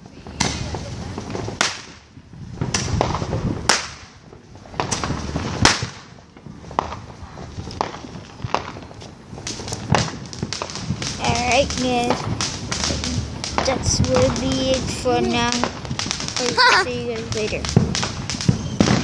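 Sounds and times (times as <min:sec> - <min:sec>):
fireworks cracks and bangs: 0:00.0 - 0:19.0
low rumbling: 0:00.0 - 0:19.0.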